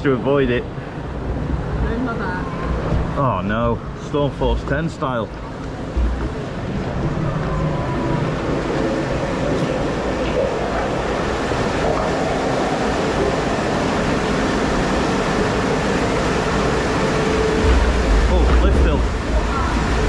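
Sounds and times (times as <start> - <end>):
log flume boat rushing rumble: 0.0 - 20.0.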